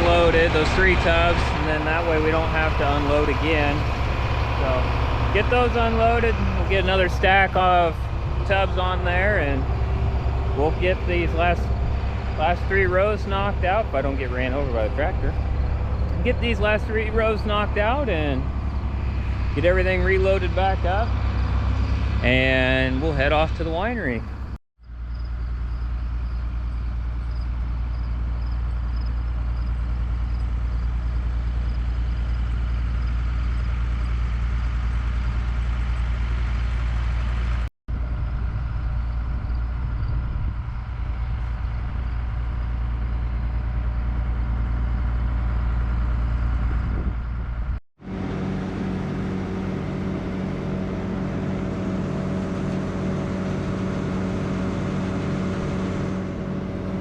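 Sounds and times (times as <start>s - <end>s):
engine hum: 0.0s - 57.0s
heavy machinery engines running: 0.0s - 57.0s.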